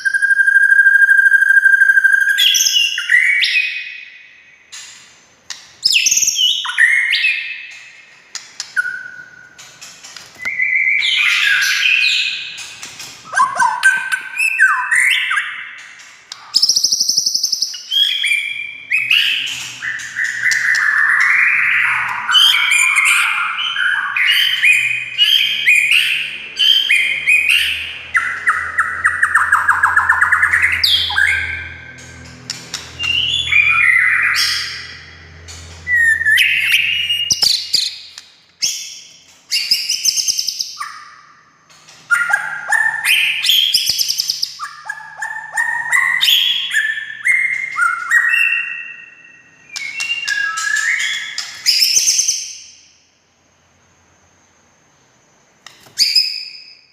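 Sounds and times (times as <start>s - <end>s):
bird singing whistled phrases: 0.0s - 4.2s, 5.8s - 7.8s, 8.7s - 9.6s, 10.4s - 12.6s, 13.3s - 32.0s, 33.0s - 35.2s, 35.8s - 41.4s, 42.1s - 52.8s, 56.0s - 56.9s.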